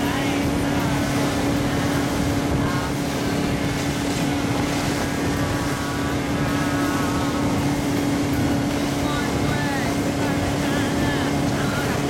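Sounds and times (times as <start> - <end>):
outboard motor drone: 0.0 - 12.0
water rushing along hull: 0.0 - 12.0.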